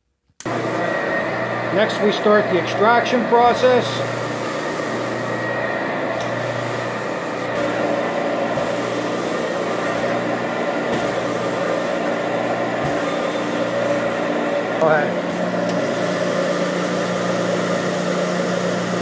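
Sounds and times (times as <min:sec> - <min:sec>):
carpet cleaning machine humming: 0:00.4 - 0:19.0.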